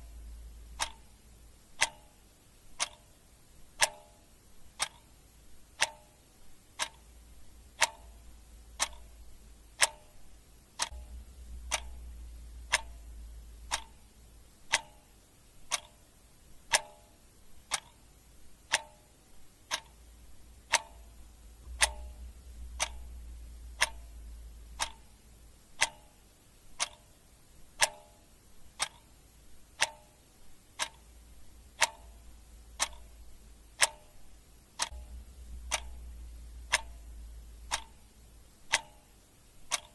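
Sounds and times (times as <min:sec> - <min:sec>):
clock ticking: 0:00.0 - 0:39.9
faint low rumble: 0:00.0 - 0:39.9.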